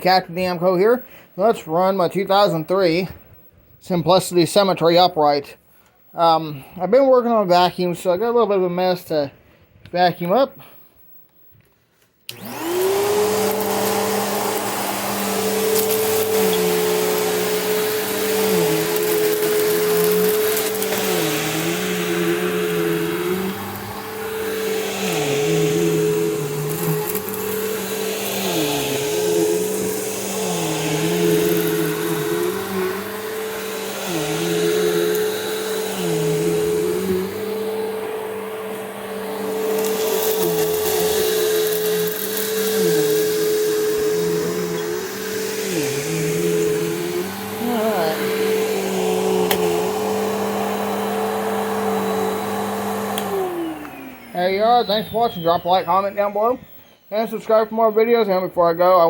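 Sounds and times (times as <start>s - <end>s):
upright vacuum cleaner whining: 11.7s - 59.0s.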